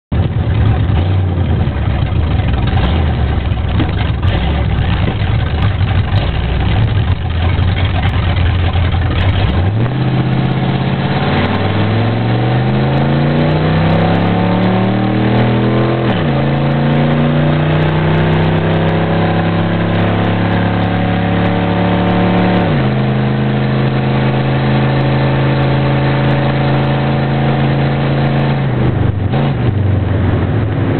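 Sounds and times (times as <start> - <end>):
car engine accelerating: 0.1 - 30.9.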